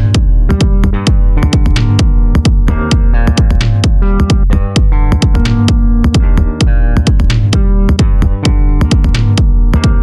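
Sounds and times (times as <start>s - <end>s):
electronic music with drum machine: 0.0s - 10.0s.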